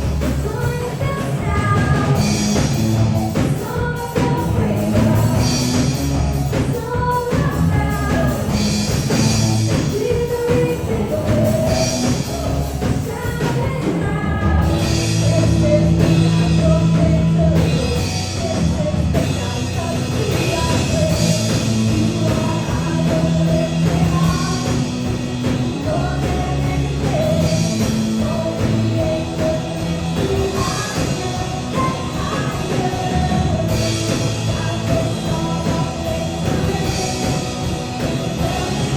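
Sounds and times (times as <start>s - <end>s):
rock song with singer and band: 0.0s - 38.9s.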